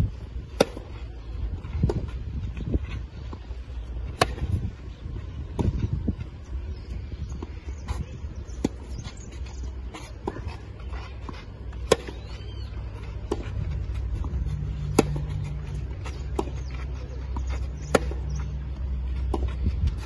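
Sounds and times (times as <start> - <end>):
steady low rumble: 0.0 - 20.0
tennis racket strokes: 0.1 - 20.0.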